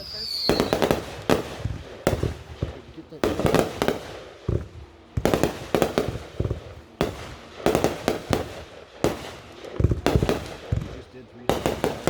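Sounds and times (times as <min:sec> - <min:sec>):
fireworks banging and cracking: 0:00.0 - 0:12.0.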